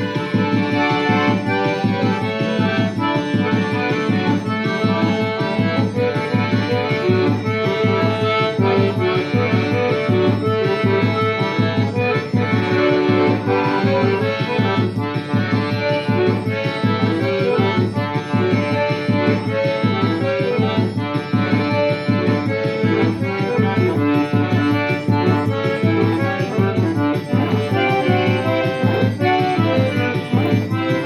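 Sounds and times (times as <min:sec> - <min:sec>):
accordion playing chords and melody: 0:00.0 - 0:31.0.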